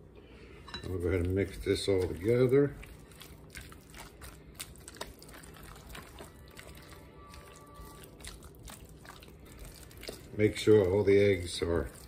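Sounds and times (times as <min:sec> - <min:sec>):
faint music: 0:00.2 - 0:12.0
wet filling squelching: 0:00.8 - 0:12.0.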